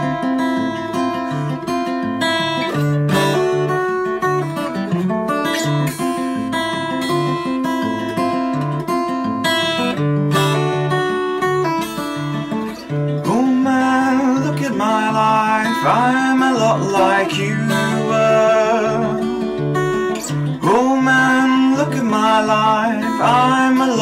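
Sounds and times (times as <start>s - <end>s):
acoustic guitar plucked chords: 0.0s - 24.0s.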